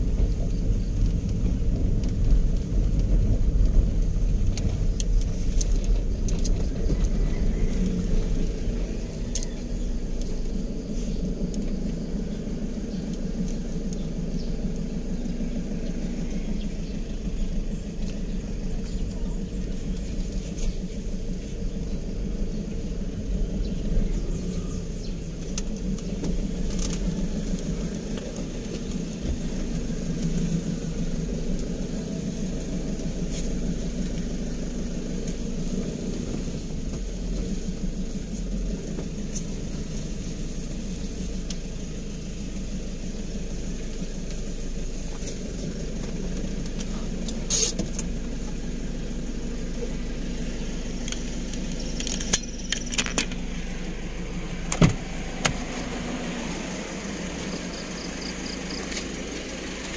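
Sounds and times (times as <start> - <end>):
car engine hum from cabin: 0.0 - 59.9.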